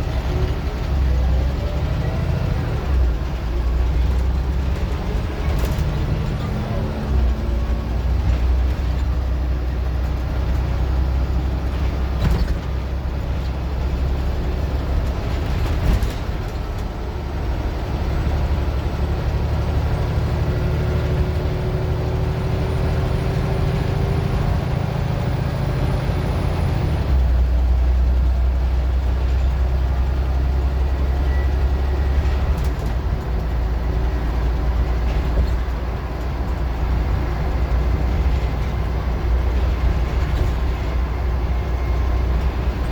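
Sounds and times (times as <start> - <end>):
bus engine running: 0.0 - 42.9.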